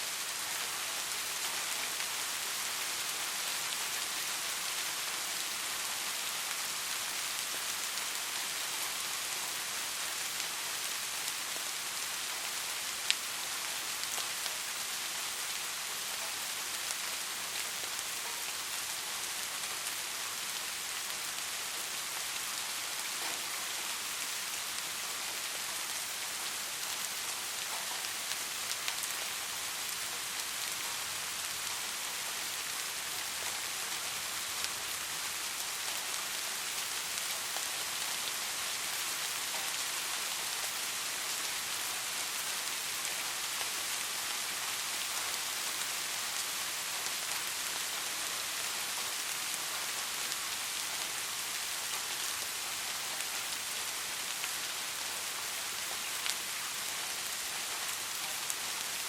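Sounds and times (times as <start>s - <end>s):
soft rain falling: 0.0s - 59.0s.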